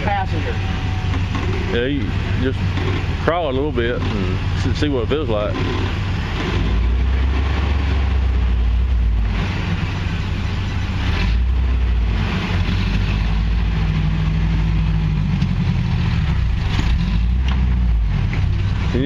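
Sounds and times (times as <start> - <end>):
vehicle engine at low revs: 0.0 - 19.0.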